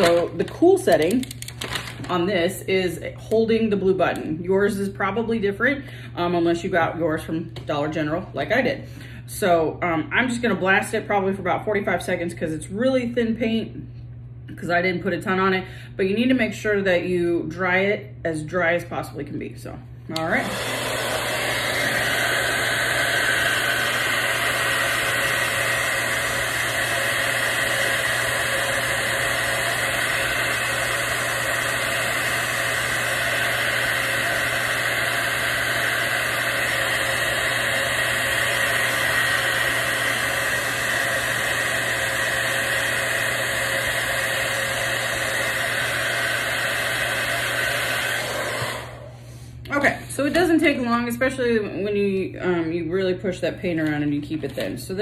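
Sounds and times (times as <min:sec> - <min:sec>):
hair dryer running: 0:00.0 - 0:13.4, 0:20.1 - 0:52.8.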